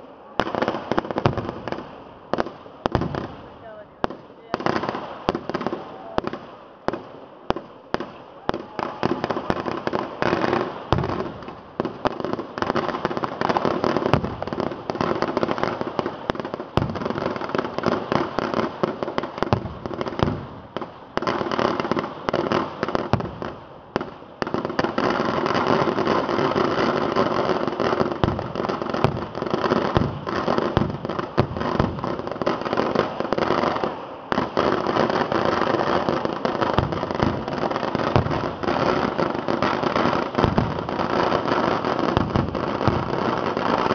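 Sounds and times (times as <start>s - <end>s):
firecracker bangs and crackling: 0.0s - 43.9s.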